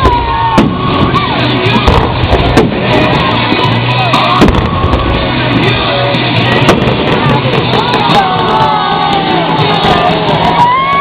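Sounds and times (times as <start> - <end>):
firework bangs: 0.0 - 10.7
music playing: 0.0 - 11.0.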